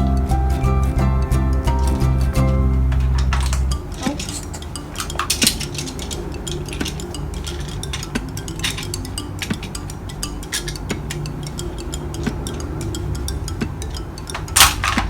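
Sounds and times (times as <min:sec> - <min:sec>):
music with deep bass: 0:00.0 - 0:15.0
plastic toy pieces clicking: 0:02.9 - 0:15.0.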